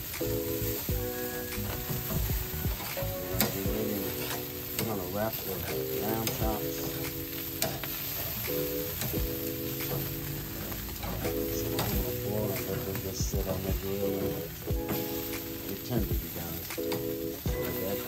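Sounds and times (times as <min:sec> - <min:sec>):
meat sizzling on a grill: 0:00.0 - 0:18.0
music with sustained notes: 0:00.0 - 0:18.0.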